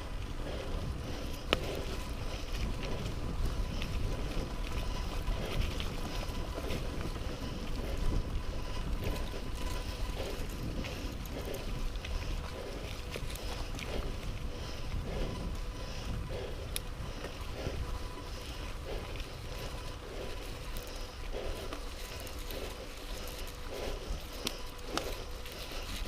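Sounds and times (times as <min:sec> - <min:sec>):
bike rattles and clicks: 0:00.0 - 0:26.0
wind rumble on microphone: 0:00.0 - 0:26.0.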